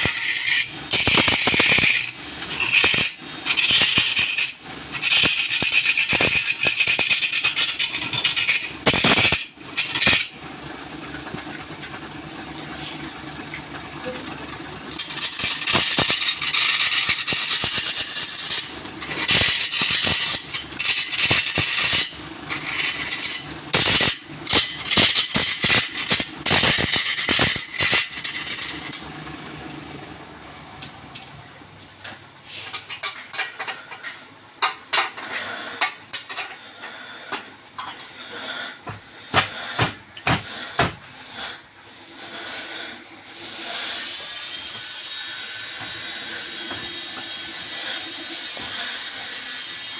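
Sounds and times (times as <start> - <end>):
woodturning cutting hiss: 0.0 - 13.3, 14.8 - 30.9, 38.1 - 49.9.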